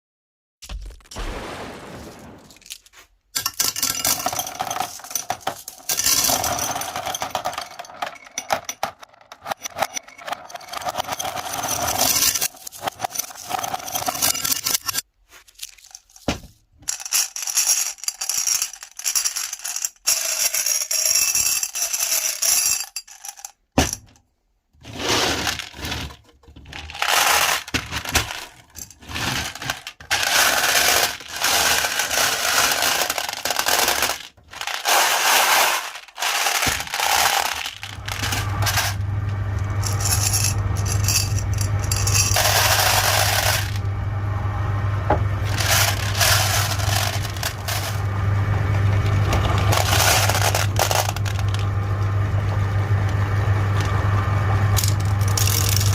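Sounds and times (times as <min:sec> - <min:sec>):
glass marbles crushed in grinder: 0:02.6 - 0:24.0, 0:24.8 - 0:43.9, 0:45.1 - 0:53.2, 0:53.8 - 0:55.9.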